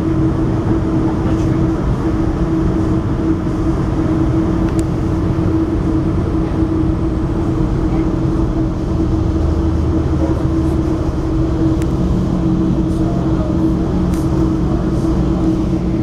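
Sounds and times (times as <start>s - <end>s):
road vehicle running: 0.0s - 16.0s.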